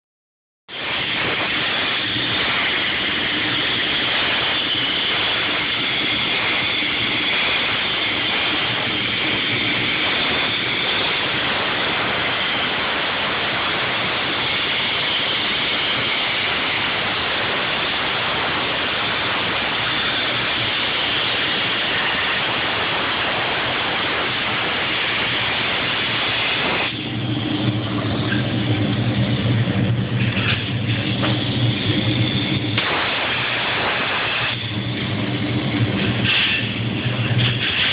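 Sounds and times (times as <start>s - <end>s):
plasma cutter hissing: 0.7s - 37.9s
low machine hum: 0.8s - 37.9s.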